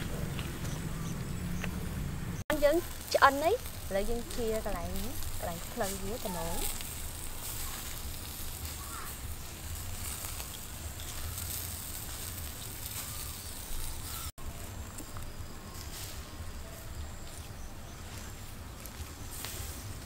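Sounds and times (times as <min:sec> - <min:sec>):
chicken roasting hiss: 0:02.5 - 0:20.0.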